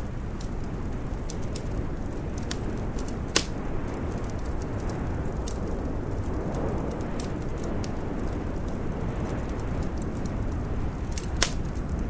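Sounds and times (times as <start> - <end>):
burning wood crackling: 0.0 - 12.0
wind rumbling: 0.0 - 12.0.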